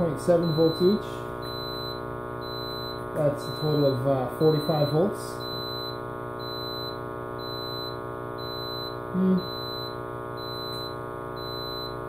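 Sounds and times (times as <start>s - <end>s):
high-pitched alarm beeps: 0.0s - 12.0s
steady electrical hum: 0.0s - 12.0s.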